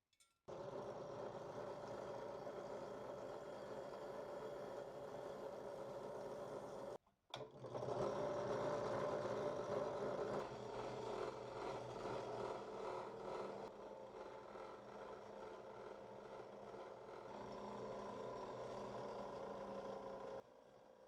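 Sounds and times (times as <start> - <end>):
electric wire brush whirring: 0.5 - 20.4.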